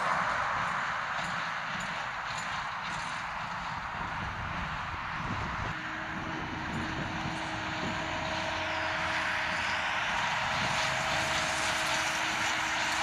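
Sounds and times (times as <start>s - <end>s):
baler machinery drone: 0.0s - 13.0s
thin steady whine: 0.0s - 13.0s
tractor engine running under load: 0.0s - 13.0s.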